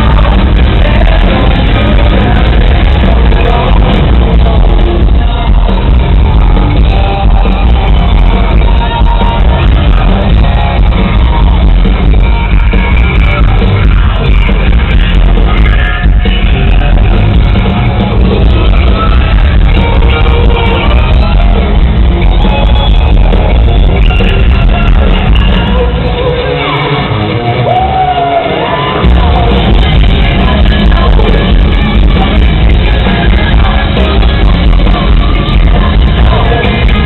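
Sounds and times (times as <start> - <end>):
hard rock band playing live: 0.0 - 37.0.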